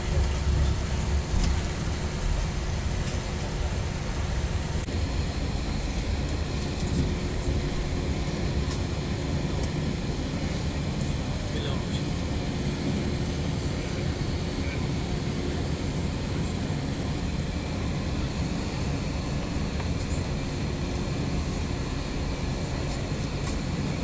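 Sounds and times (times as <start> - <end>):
aircraft cabin noise: 0.0 - 24.0
jet engines low rumble: 0.0 - 24.0.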